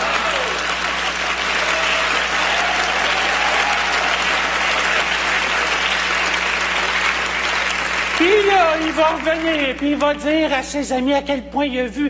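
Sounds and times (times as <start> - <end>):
large audience applauding: 0.0 - 10.6.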